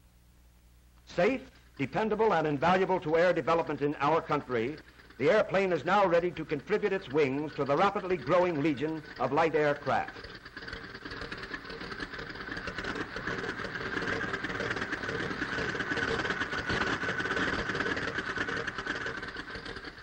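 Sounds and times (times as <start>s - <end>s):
light aircraft engine pulsing: 1.1s - 20.0s.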